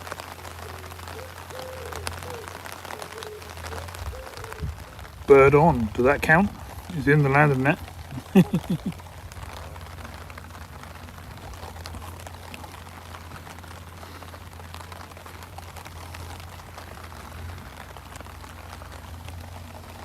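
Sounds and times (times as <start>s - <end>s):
rain drops tapping: 0.0s - 20.0s.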